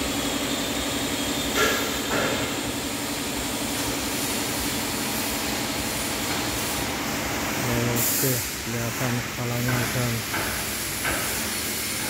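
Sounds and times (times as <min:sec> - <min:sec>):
workshop machinery humming: 0:00.0 - 0:12.0.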